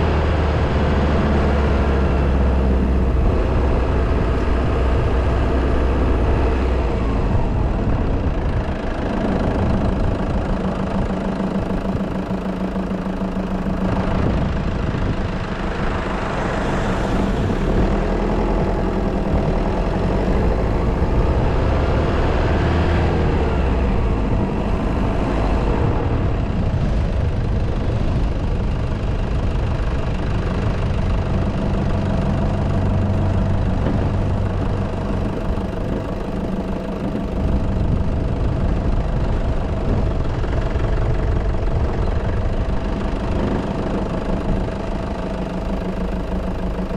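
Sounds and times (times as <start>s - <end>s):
vehicle engine driving: 0.0s - 46.9s.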